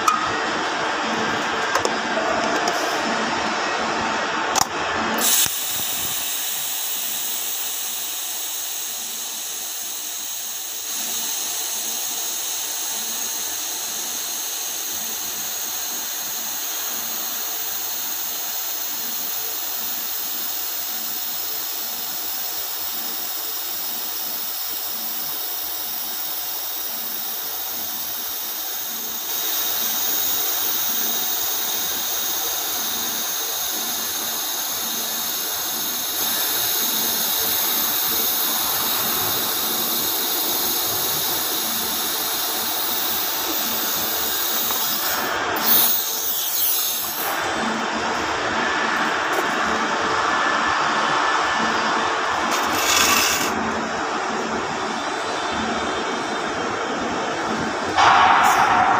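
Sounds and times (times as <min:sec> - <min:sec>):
welding arc hissing: 0:04.6 - 0:51.4, 0:52.2 - 0:53.8.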